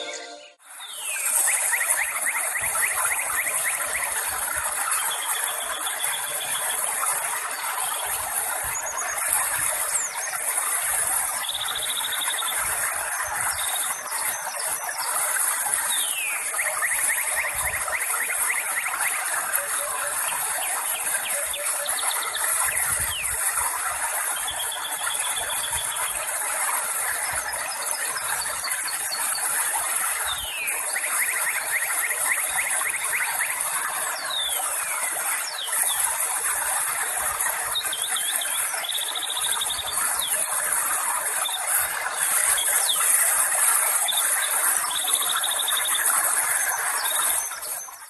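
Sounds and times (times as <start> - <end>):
birds whistling and trilling: 0.0 - 48.0.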